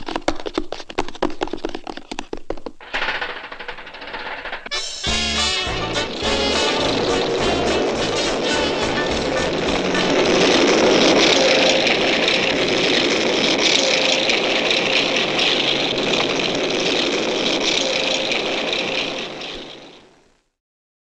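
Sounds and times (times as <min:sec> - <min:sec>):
tank driving: 0:02.8 - 0:20.4.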